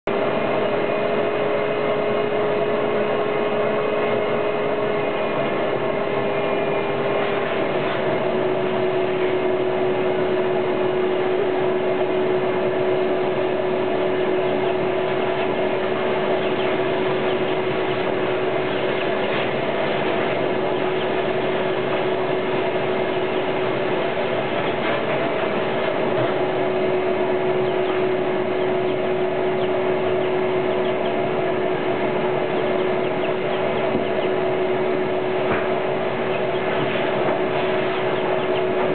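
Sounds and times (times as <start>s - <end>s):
vacuum cleaner running: 0.1s - 38.9s.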